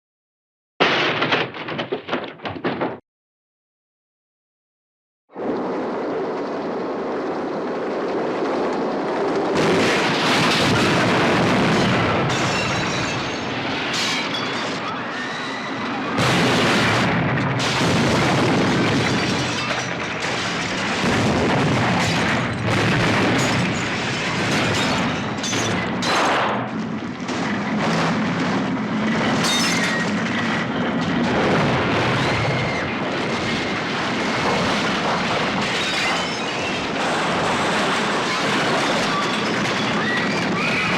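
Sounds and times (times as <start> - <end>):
debris crashing and breaking: 0.8 - 3.0, 9.6 - 40.9.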